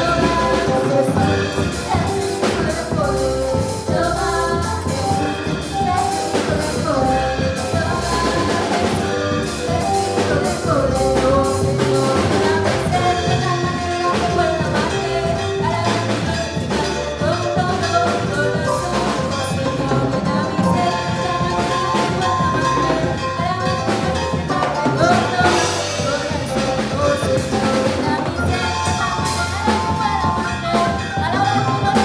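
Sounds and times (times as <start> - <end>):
drum kit and percussion: 0.0 - 32.0
person singing: 0.0 - 32.0
salsa groove music: 0.0 - 32.0.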